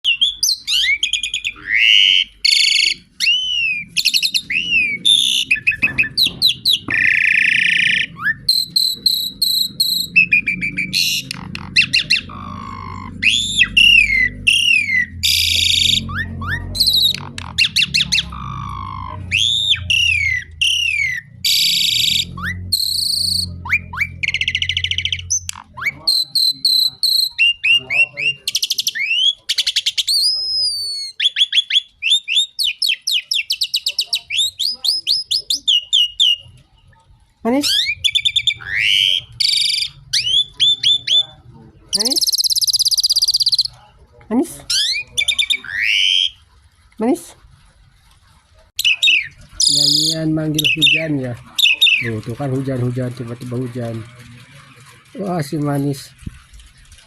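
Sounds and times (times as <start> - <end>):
starling singing: 0.0 - 46.5, 48.8 - 56.2.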